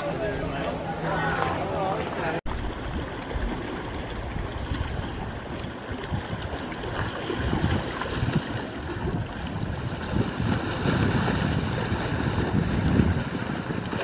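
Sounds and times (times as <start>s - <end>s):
waves lapping on rocky shore: 2.5s - 14.0s
wind rumbling on microphone: 2.5s - 14.0s.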